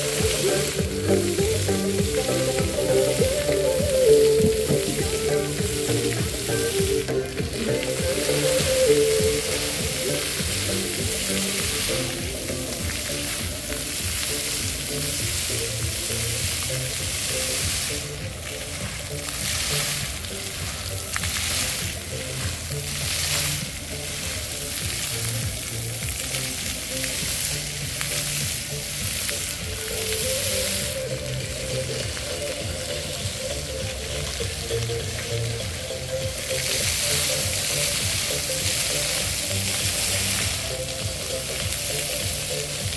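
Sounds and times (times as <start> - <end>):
fountain jets spraying: 0.0 - 42.9.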